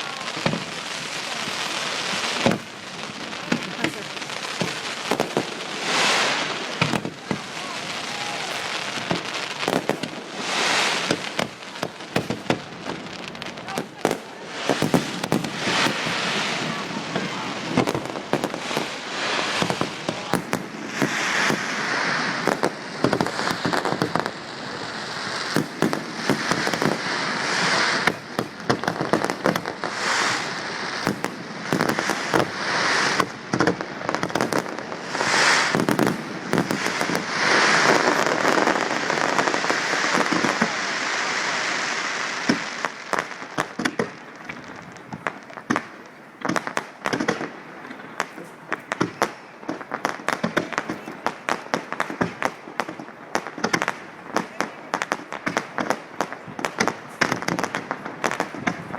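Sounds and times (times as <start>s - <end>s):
fireworks bangs: 0.0s - 58.9s
fireworks crackle: 0.0s - 58.9s.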